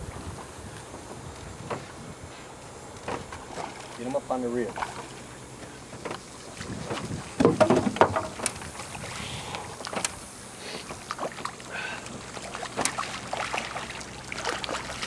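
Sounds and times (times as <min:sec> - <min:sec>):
water splashing against boat: 0:00.0 - 0:15.0.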